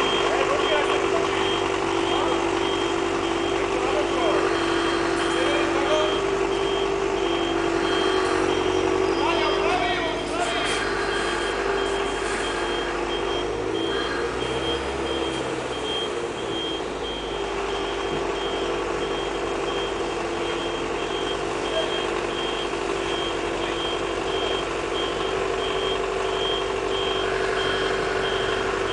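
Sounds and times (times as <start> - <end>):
generator drone: 0.0 - 28.9
reversing alarm beeps: 0.0 - 28.9.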